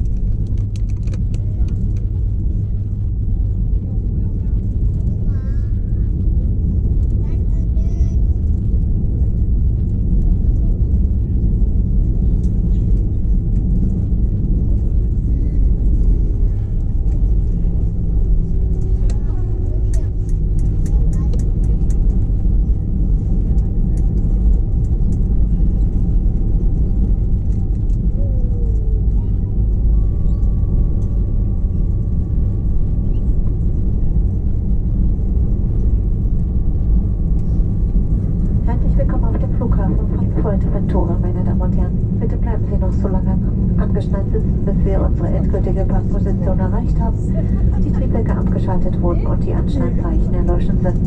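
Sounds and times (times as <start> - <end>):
airliner cabin rumble: 0.0 - 51.0
faint steady whine: 0.0 - 51.0.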